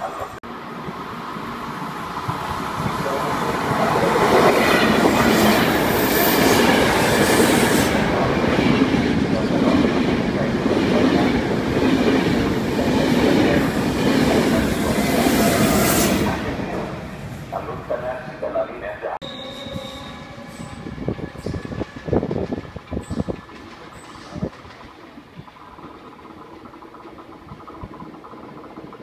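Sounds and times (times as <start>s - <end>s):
train passing wheel and rail noise: 0.0s - 29.0s.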